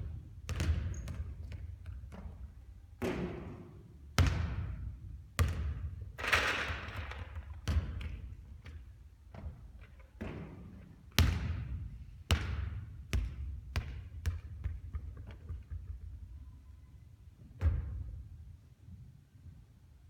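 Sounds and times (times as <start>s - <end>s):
basketball bouncing with echo: 0.0s - 16.3s, 17.6s - 18.2s.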